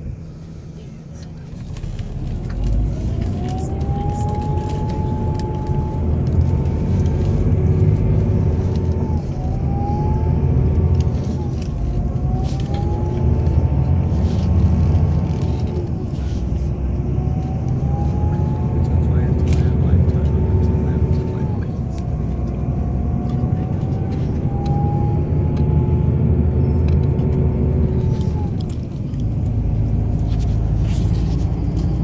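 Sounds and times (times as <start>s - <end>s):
bus engine and road noise: 0.0s - 32.0s
thin whine rising in pitch: 3.4s - 16.1s, 16.8s - 30.8s.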